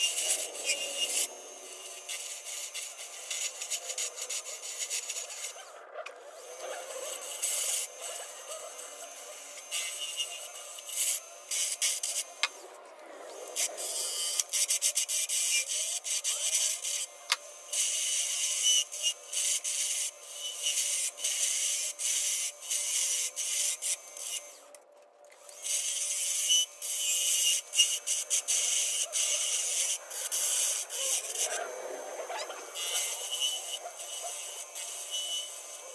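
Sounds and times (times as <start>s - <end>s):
lathe tool scraping wood: 0.0s - 24.8s, 25.4s - 35.9s.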